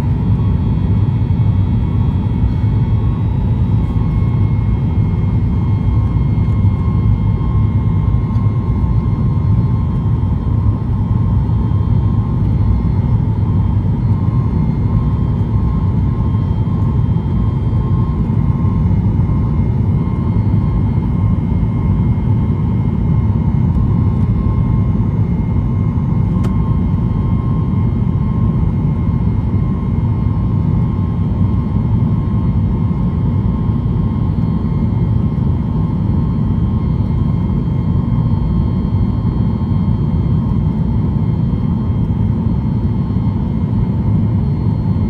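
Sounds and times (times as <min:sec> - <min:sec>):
jet engines deep rumble: 0:00.0 - 0:45.0.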